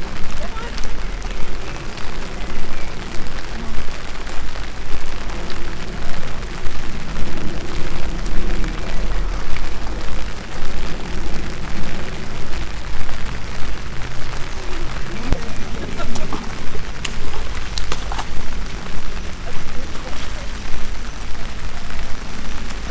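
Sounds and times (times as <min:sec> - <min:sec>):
loud low rumble: 0:00.0 - 0:22.9
steady rain falling: 0:00.0 - 0:22.9.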